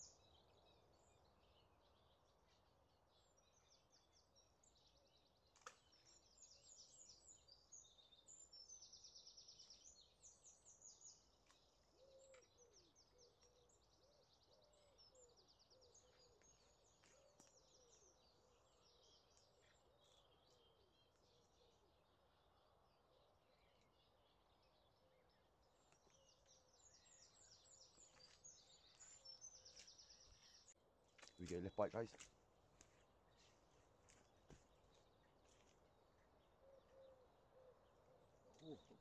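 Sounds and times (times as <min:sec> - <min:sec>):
songbird trilling and chirping: 0:00.0 - 0:32.3.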